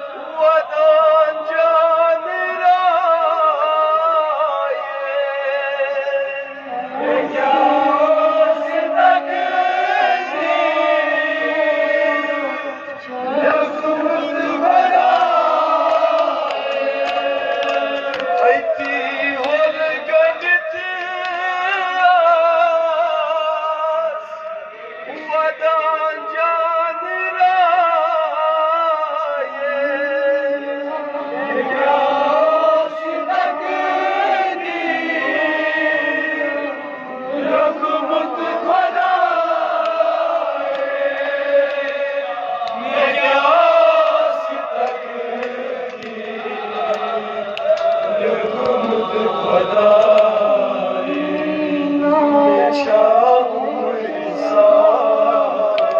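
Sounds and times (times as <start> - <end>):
man singing through loudspeaker: 0.0 - 55.9
men chanting a lament: 0.0 - 55.9.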